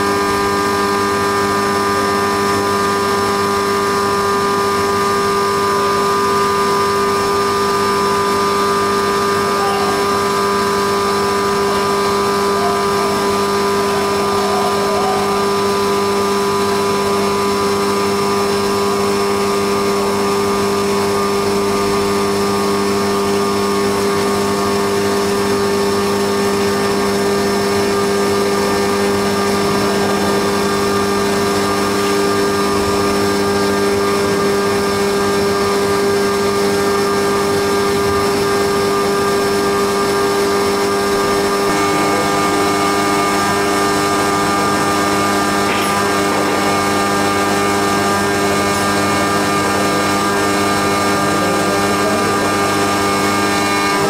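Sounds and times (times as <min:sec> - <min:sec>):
milling machine whine: 0:00.0 - 0:54.0.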